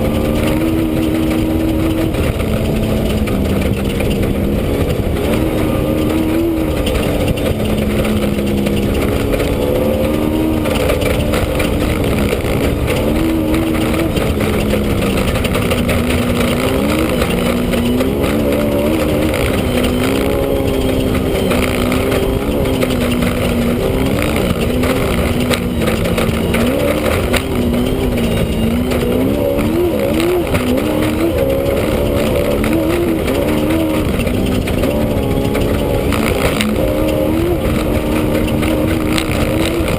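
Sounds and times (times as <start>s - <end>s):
constant rushing noise: 0.0s - 39.9s
race vehicle engine: 0.0s - 39.9s.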